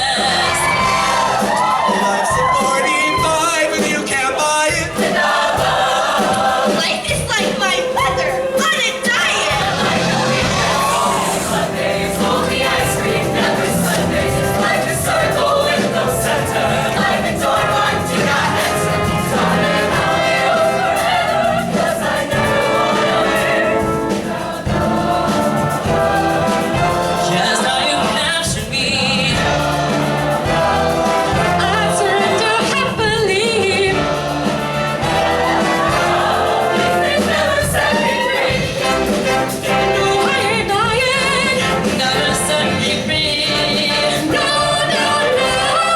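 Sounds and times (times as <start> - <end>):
choir singing with accompaniment: 0.0 - 45.9.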